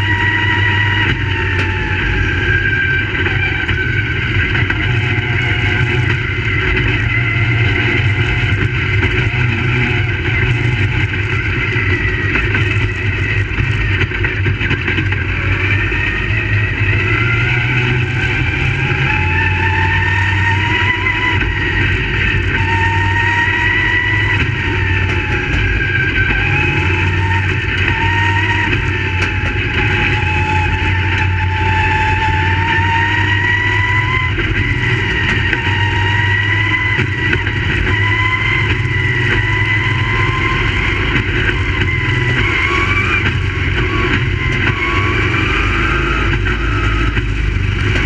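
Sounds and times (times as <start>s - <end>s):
race car engines: 0.0s - 48.0s.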